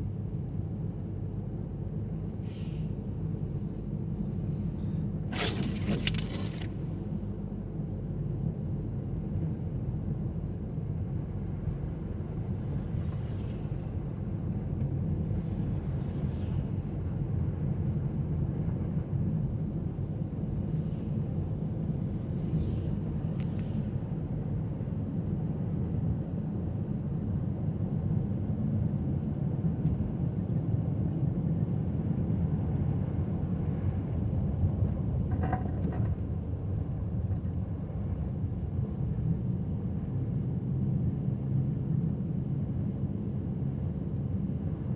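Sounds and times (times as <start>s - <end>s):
car driving on snowy road: 0.1s - 44.9s.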